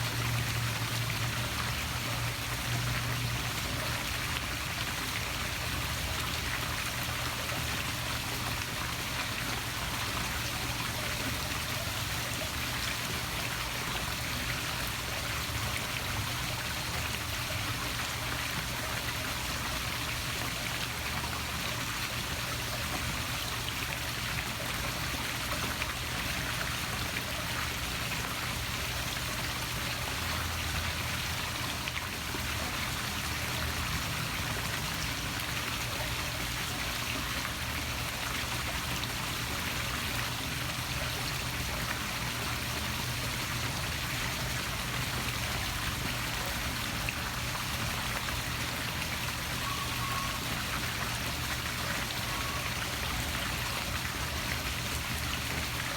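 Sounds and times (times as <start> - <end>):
waterfall splashing into pool: 0.0 - 55.9.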